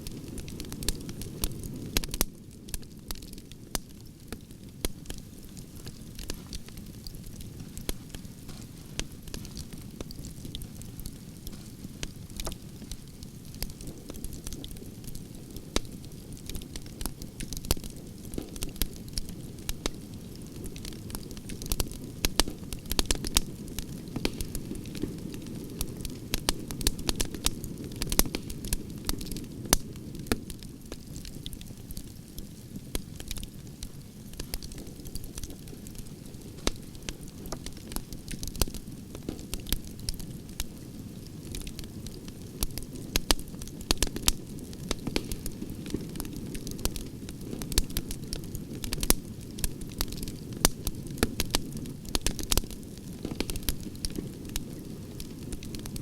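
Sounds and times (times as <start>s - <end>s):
campfire crackling and popping: 0.0s - 56.0s
low rumble of flames: 0.0s - 56.0s.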